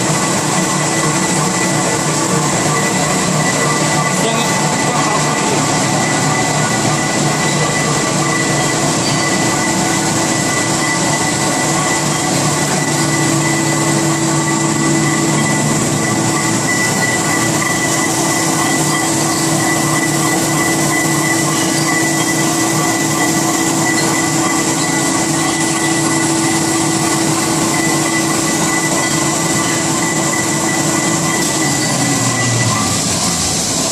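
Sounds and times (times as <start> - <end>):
wrapping machine whirring: 0.0 - 33.9.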